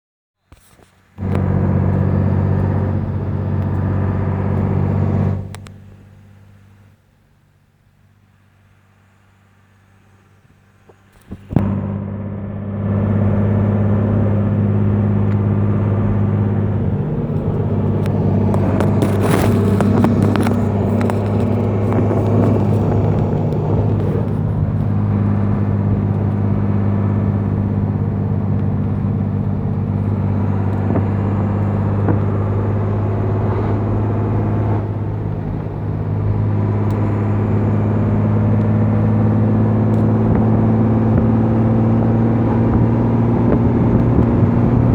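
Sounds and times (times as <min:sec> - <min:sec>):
diesel truck engine running: 0:01.2 - 0:44.9.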